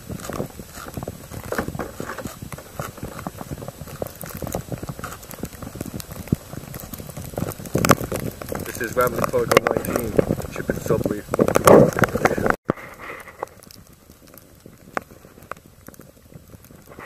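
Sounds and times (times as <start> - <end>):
footsteps crunching in snow: 0.0 - 17.0
wind rumble on microphone: 0.0 - 17.0.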